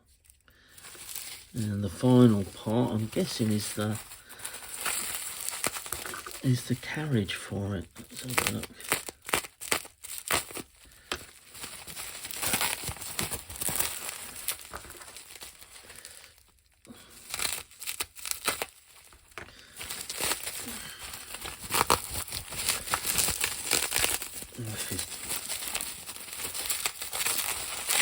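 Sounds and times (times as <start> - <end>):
plastic wrapping crinkling: 0.0 - 28.0.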